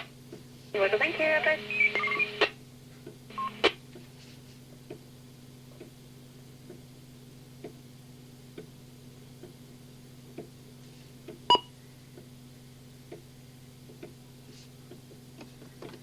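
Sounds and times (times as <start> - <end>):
low radio hum: 0.0 - 16.0.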